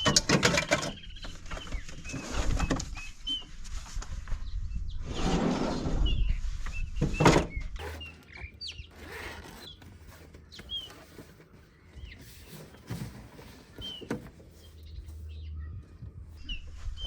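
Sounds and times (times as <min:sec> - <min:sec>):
birds chirping: 0:00.0 - 0:03.6, 0:04.3 - 0:17.0.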